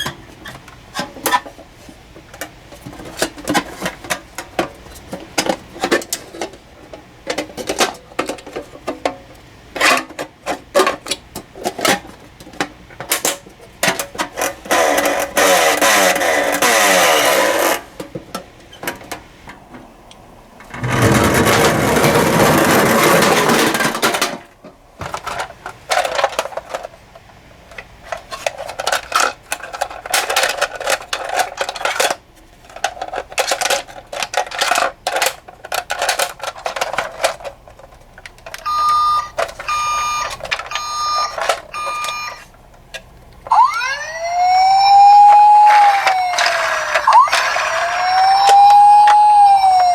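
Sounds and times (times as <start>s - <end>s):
toy cars clattering on plastic track: 0.0s - 19.3s, 20.6s - 49.9s.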